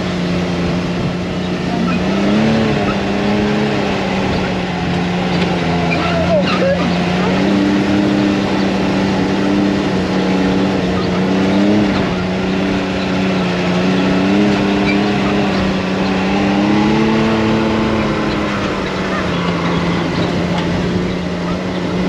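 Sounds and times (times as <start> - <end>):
atv engine running: 0.0 - 22.0
constant rushing noise: 0.0 - 22.0.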